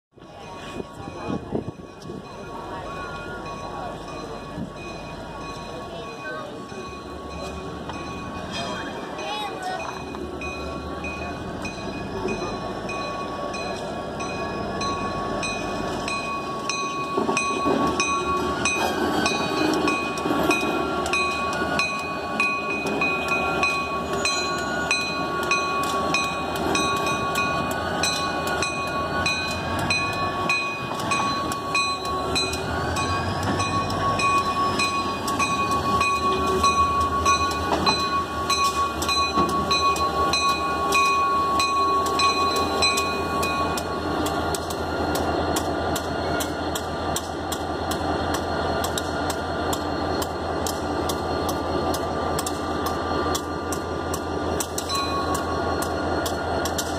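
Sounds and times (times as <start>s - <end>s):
diesel locomotive running: 0.1s - 56.9s
bell clanging: 0.3s - 56.9s.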